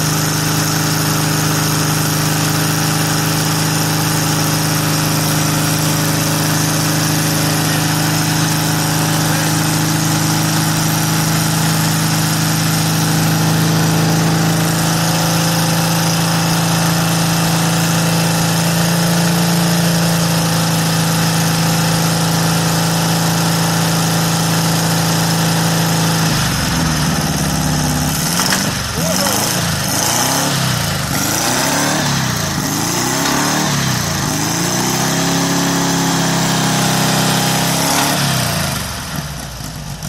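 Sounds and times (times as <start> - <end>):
flat-four engine running: 0.0 - 40.0.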